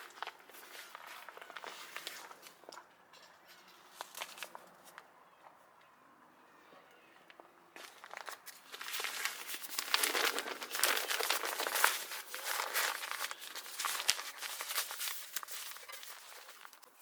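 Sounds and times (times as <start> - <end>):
crinkling and rustling: 0.0 - 5.9, 7.1 - 17.0.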